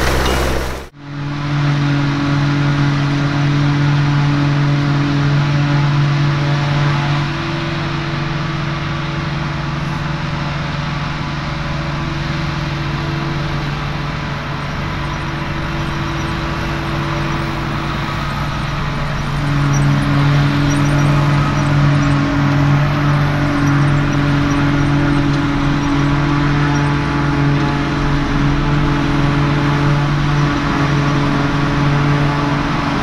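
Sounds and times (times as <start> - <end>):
forage harvester running: 0.0 - 33.0
tractor engines: 0.0 - 33.0.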